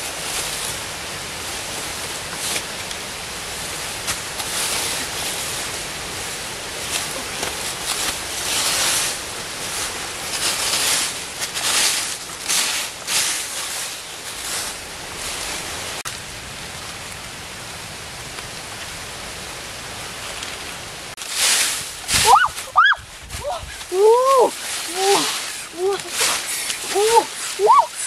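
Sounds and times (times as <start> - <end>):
dry leaves rustling and crackling: 0.0 - 19.1, 20.0 - 28.0
steady hiss: 0.0 - 28.0.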